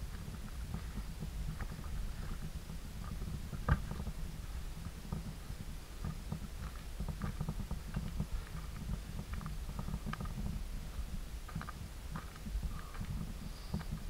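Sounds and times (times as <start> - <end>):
constant low rumble: 0.0 - 14.0
footsteps on dry leaves and stones: 0.0 - 14.0.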